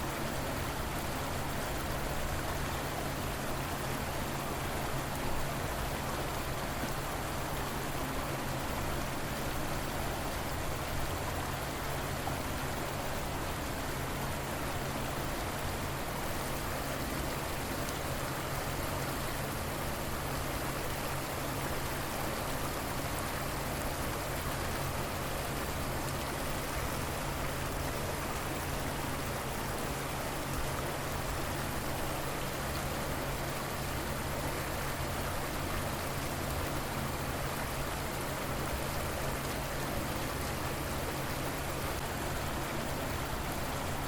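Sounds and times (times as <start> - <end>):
river water flowing: 0.0 - 44.0.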